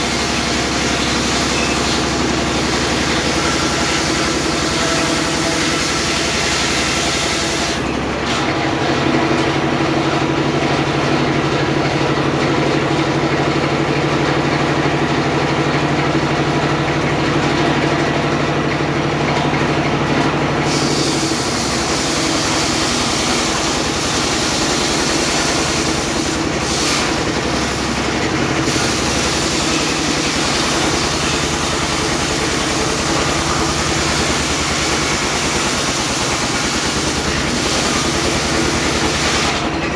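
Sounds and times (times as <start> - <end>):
circular sawmill running: 0.0 - 39.9.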